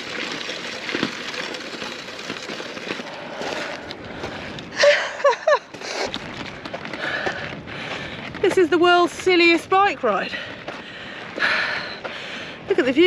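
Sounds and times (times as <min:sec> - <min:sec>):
bike tyres rushing on gravel: 0:00.0 - 0:13.0.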